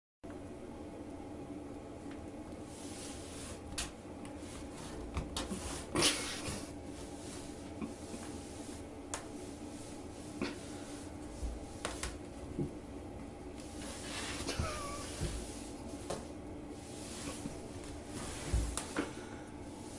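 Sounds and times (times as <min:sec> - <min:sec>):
steady low hum: 0:00.2 - 0:19.9.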